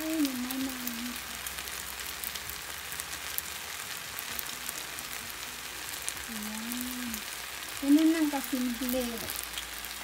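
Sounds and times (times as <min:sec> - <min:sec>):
noodles sizzling in a pan: 0:00.0 - 0:10.0.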